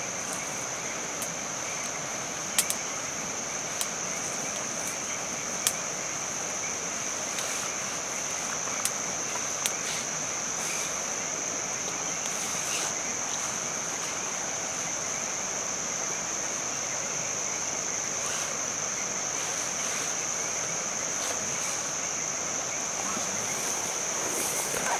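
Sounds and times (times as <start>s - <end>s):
rain hiss: 0.0s - 24.9s.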